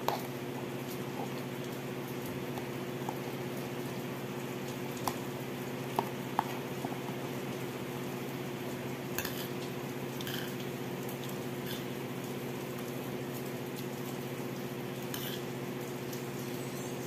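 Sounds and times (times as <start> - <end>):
rain on a corrugated roof: 0.0 - 17.0.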